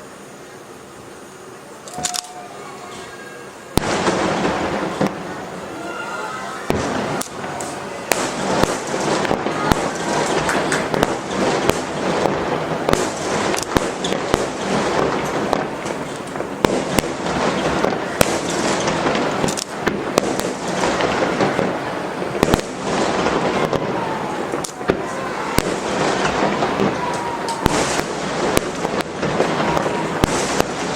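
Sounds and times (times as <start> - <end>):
bursting fireworks shells: 1.8 - 30.9
fireworks bangs: 2.0 - 30.9.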